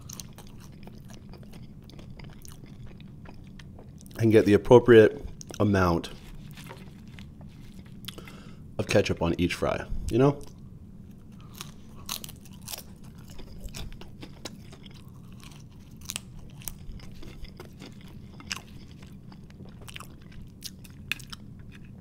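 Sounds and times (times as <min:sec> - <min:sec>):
chewing crunchy fries: 0:00.0 - 0:09.0, 0:10.0 - 0:22.0.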